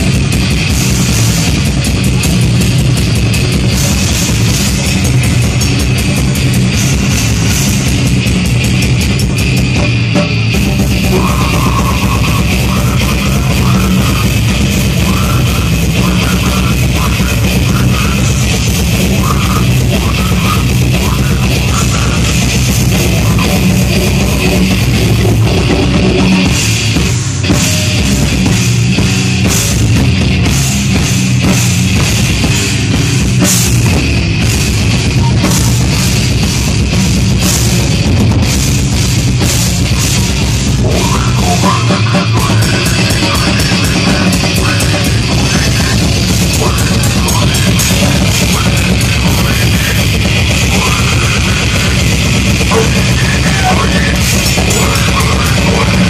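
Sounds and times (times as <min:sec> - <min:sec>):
distorted electric guitars: 0:00.0 - 0:56.0
drum kit: 0:00.0 - 0:56.0.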